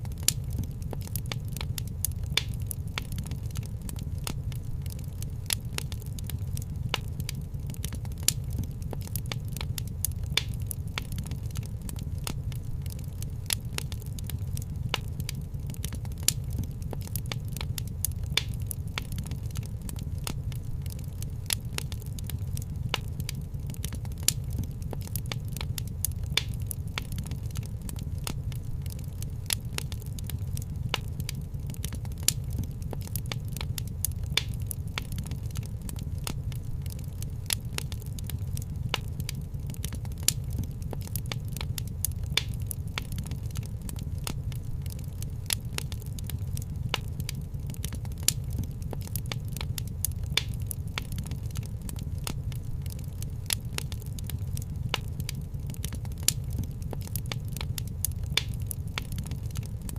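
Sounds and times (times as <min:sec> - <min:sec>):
low rumble of fire: 0:00.0 - 0:59.9
wood fire crackling and popping: 0:00.0 - 0:59.9.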